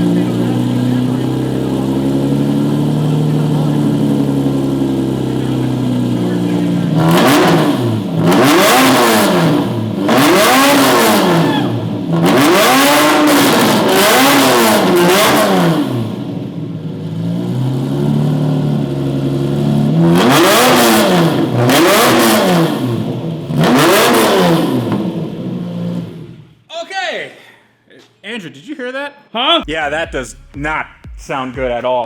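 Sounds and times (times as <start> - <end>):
car engine revving: 0.0 - 26.6.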